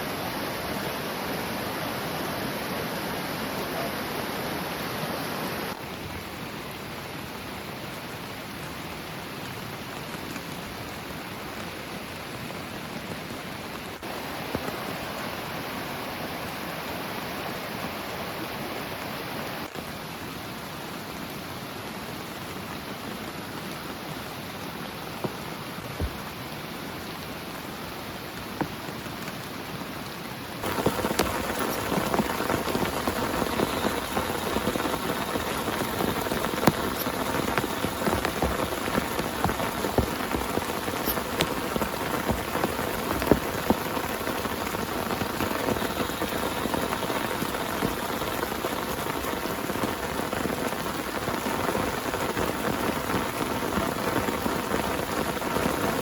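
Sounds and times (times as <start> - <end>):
heavy rain hissing: 0.0 - 56.0
raindrops hitting a surface: 0.0 - 56.0.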